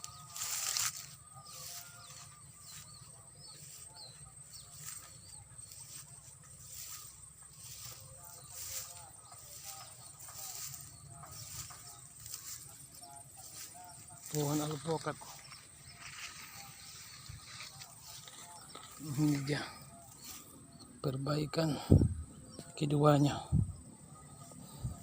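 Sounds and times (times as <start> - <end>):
soft repeating noises: 0.0 - 25.0.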